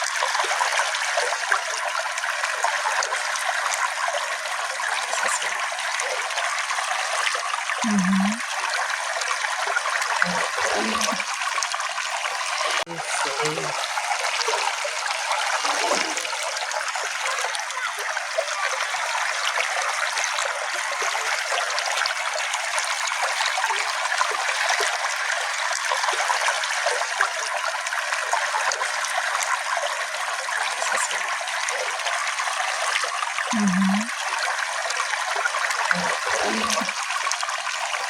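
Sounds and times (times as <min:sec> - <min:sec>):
brook flowing: 0:00.0 - 0:38.0
small water splashes and trickles: 0:00.0 - 0:38.0.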